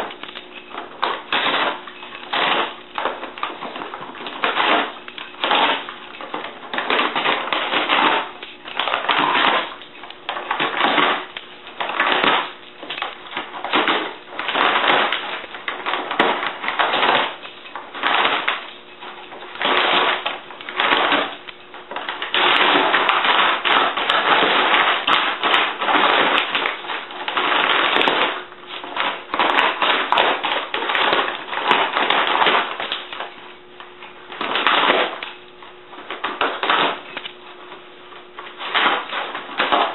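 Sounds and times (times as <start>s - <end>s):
dog ripping paper bag: 0.0s - 39.9s.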